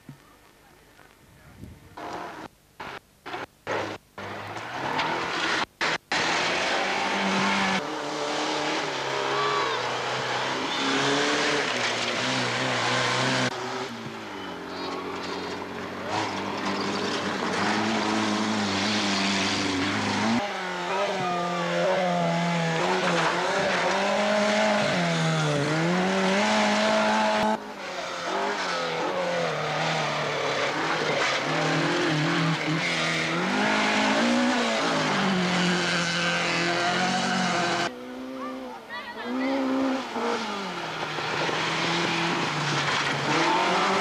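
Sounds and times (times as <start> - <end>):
rally car engines revving: 2.0 - 44.0.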